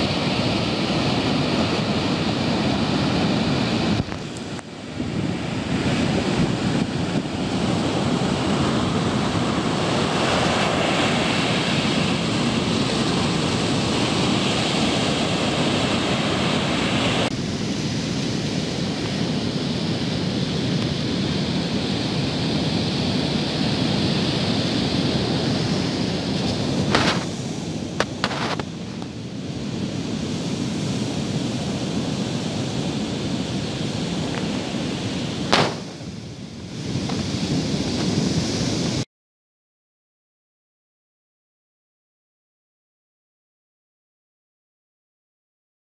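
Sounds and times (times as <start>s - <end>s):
ocean surf breaking on beach: 0.0s - 39.0s
wind buffeting microphone: 0.0s - 39.0s.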